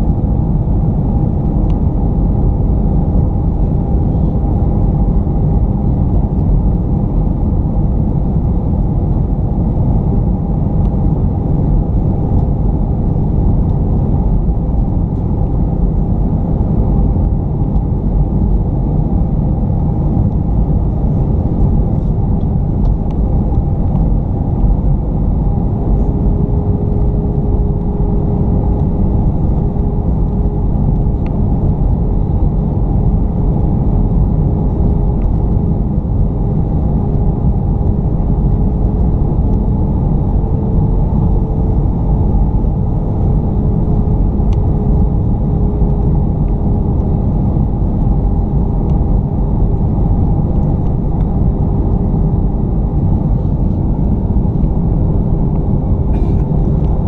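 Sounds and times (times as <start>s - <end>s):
faint steady hums: 0.0s - 57.0s
jet engine and airflow rumble: 0.0s - 57.0s.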